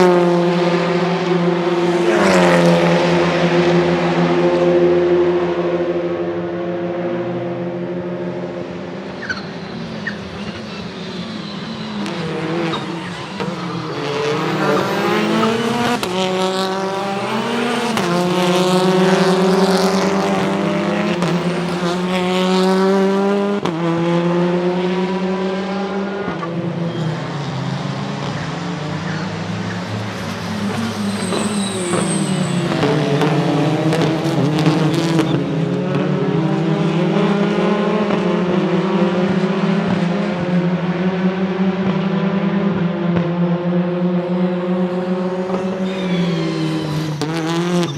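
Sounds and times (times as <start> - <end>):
car engine accelerating hard: 0.0 - 47.9.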